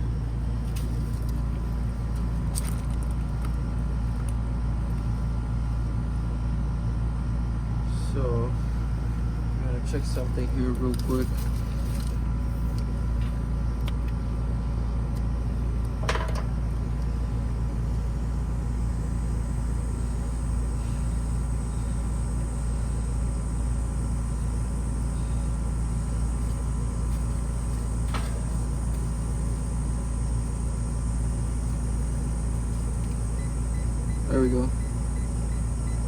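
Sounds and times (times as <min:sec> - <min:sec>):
air conditioning unit humming: 0:00.0 - 0:36.0.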